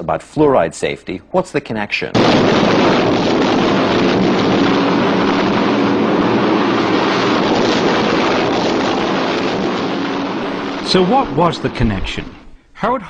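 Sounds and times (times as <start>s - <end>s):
explosion roar: 2.1s - 12.6s.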